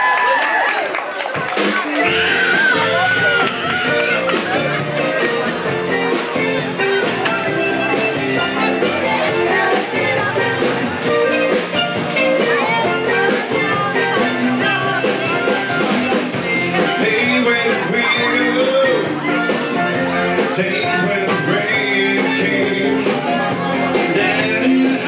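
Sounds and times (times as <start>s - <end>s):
live rock band playing: 1.4s - 25.0s
electric guitar: 1.5s - 25.0s.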